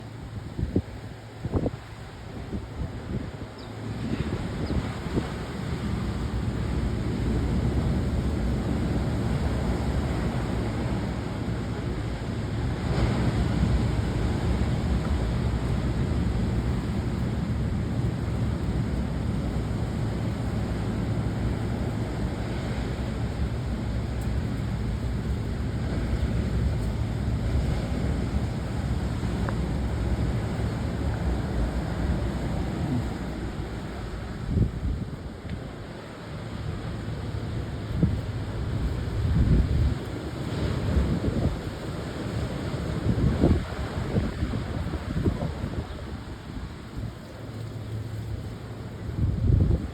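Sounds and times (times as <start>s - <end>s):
heavy surf breaking on beach: 0.0s - 49.9s
wind rumbling on microphone: 0.0s - 49.9s.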